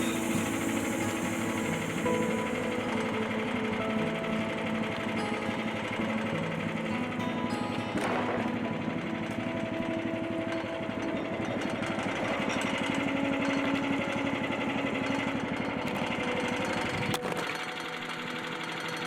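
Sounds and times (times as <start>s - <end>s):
engine running with rapid pulse: 0.0s - 19.0s.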